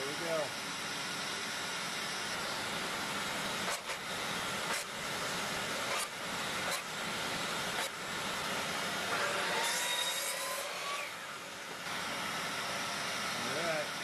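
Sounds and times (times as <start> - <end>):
workshop machine hiss: 0.0 - 14.0.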